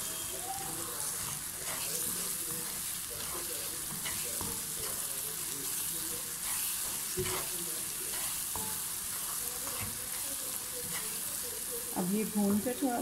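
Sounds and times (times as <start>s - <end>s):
food sizzling in hot oil: 0.0s - 13.0s
spatula scraping a pan: 1.0s - 11.9s.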